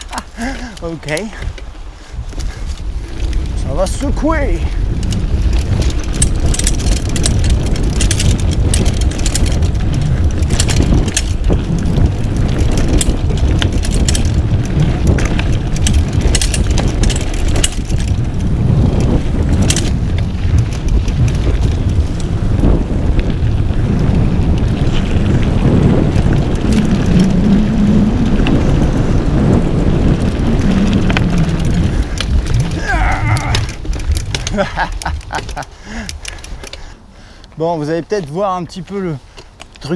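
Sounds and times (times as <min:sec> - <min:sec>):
mountain bike rattling over dirt: 0:00.0 - 0:39.9
wind rumbling on microphone: 0:00.0 - 0:39.9.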